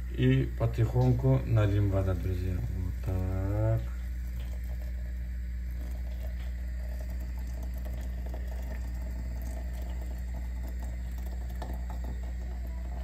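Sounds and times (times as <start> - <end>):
water pouring from kettle: 0.7 - 13.0.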